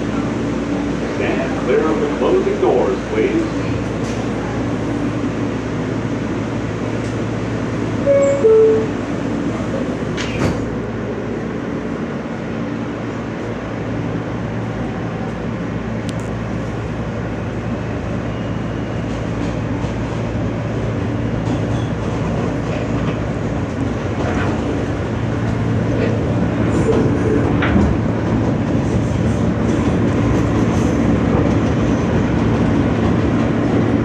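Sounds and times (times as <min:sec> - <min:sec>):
subway motor hum: 0:00.0 - 0:34.0.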